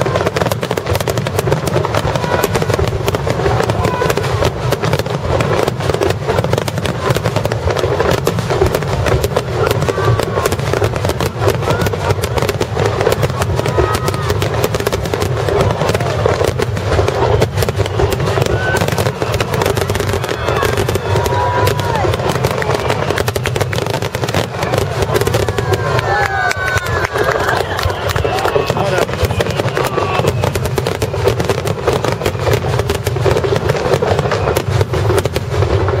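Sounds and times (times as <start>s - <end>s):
fireworks bursting: 0.0s - 36.0s
fireworks crackling: 0.0s - 36.0s.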